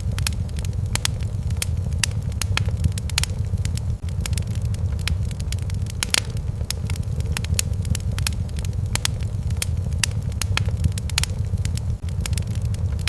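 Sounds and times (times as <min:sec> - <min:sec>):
fire crackling and popping: 0:00.0 - 0:13.0
low rumble of fire: 0:00.0 - 0:13.0.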